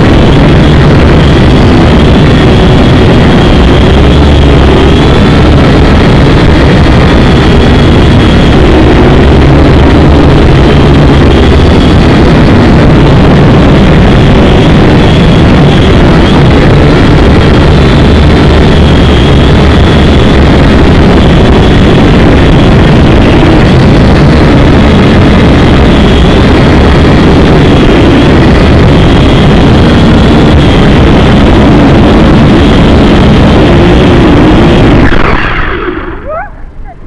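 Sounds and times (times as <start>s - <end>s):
drone propellers whirring: 0.0s - 37.0s.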